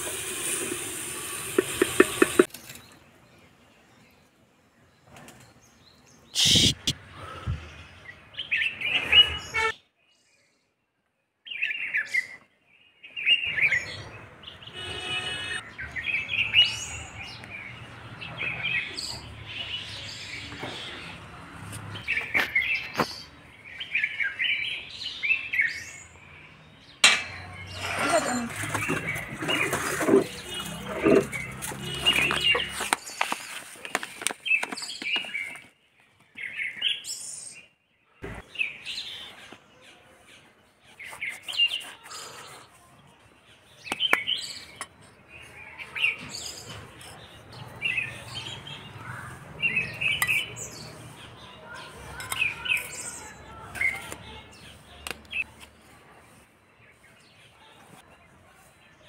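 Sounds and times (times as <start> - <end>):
small birds chirping: 11.4 - 59.0.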